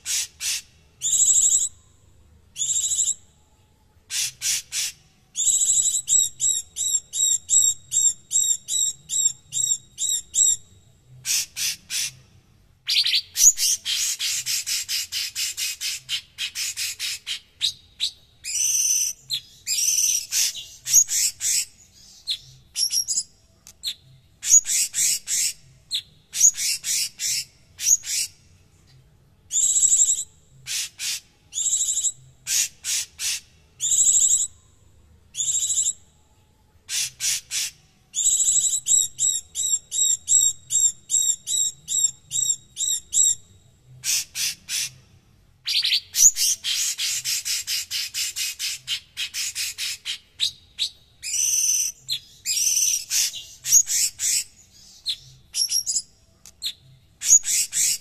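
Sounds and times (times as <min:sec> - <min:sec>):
bird chattering song: 0:00.0 - 0:01.8, 0:02.5 - 0:03.4, 0:04.0 - 0:28.5, 0:29.5 - 0:34.6, 0:35.3 - 0:36.1, 0:36.9 - 0:58.0.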